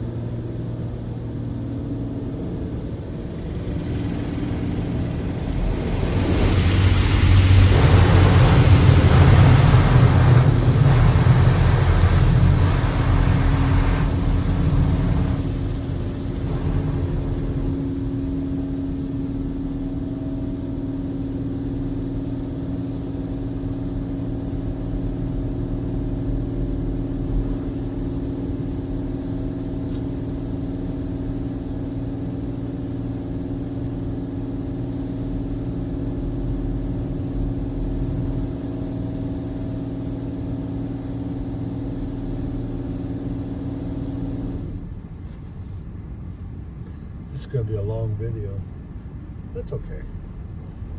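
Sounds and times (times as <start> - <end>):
low mechanical hum: 0.0 - 50.9
high-pressure water spray on car: 3.3 - 44.8.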